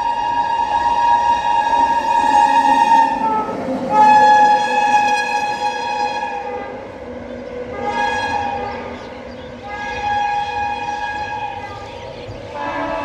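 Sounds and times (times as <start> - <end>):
locomotive horn blasts: 0.0 - 13.0
moving train noise: 0.0 - 13.0.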